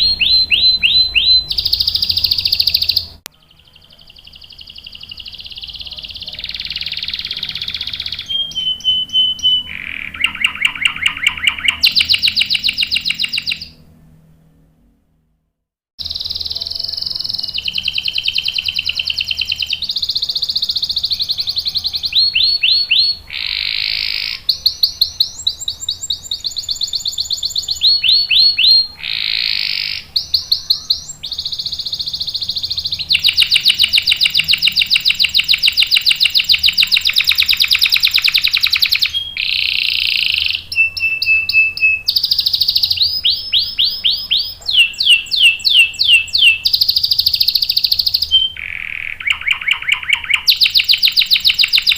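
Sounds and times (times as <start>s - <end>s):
canary singing trills: 0.0s - 14.1s, 16.0s - 51.9s.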